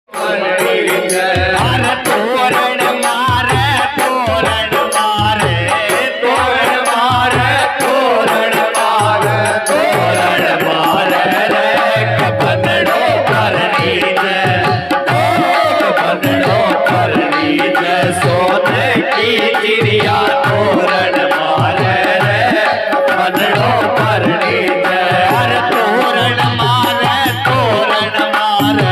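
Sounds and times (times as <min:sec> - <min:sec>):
dholak drum beat: 0:00.1 - 0:28.9
electronic organ melody: 0:00.1 - 0:28.9.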